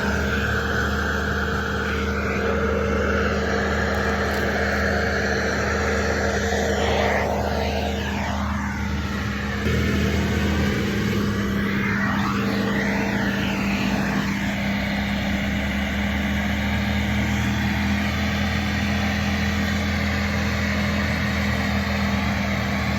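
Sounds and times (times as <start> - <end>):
rotary cutter machine drone: 0.0 - 22.9.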